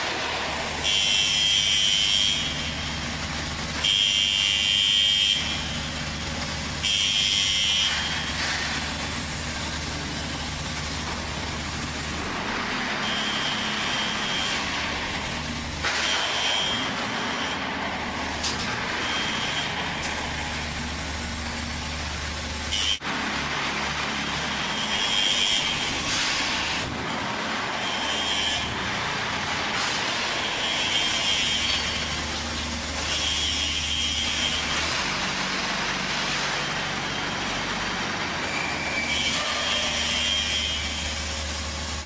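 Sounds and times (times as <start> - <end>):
machinery low hum: 2.3 - 42.0.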